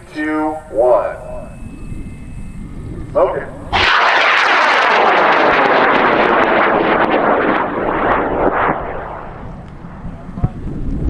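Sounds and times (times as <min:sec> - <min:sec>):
rocket motor roaring: 0:00.0 - 0:11.0.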